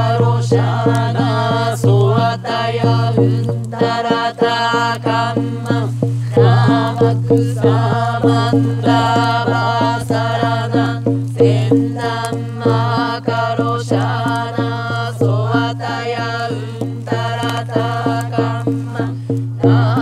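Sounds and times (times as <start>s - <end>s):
person chanting: 0.0s - 20.0s
quick percussive beats: 0.0s - 20.0s.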